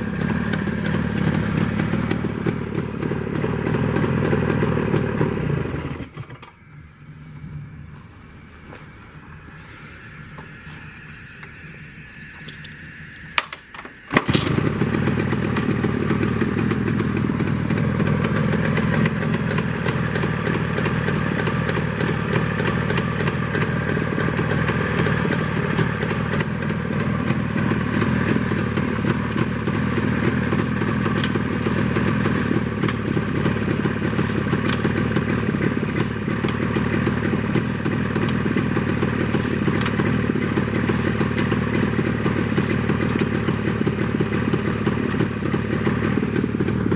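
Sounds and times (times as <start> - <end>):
two-stroke motorcycle engine idling: 0.0 - 6.4, 14.1 - 46.9.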